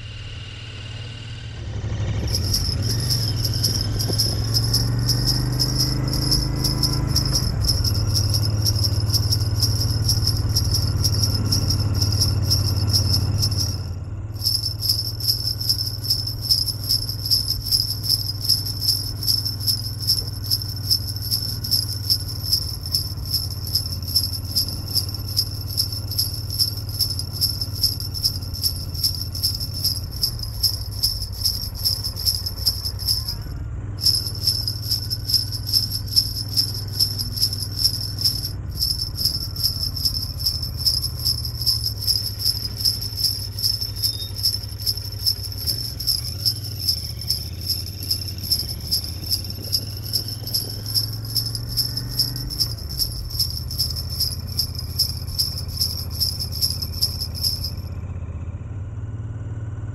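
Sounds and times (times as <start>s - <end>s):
sleigh bells jingling: 2.2s - 57.8s.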